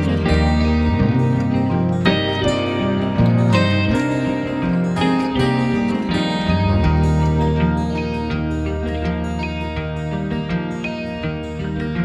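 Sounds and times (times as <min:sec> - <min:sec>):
plucked acoustic guitar melody: 0:00.0 - 0:12.0.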